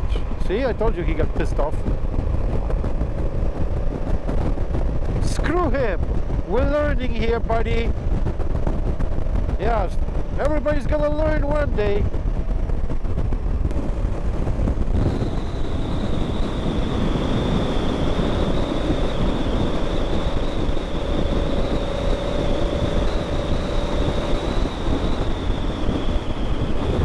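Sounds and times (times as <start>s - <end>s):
motorcycle engine: 0.0s - 27.0s
road noise: 0.0s - 27.0s
wind rushing over microphone: 0.0s - 27.0s.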